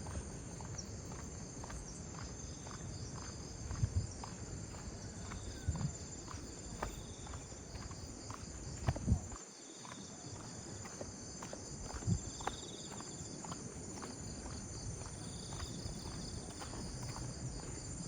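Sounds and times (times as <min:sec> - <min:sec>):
footsteps on path: 0:00.0 - 0:18.0
insects chirping: 0:00.0 - 0:18.0
pulsing insect chirp: 0:00.0 - 0:18.0.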